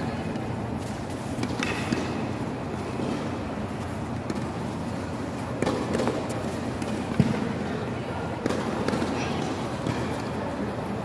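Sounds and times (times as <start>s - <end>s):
tennis balls struck with rackets: 0.2s - 10.4s.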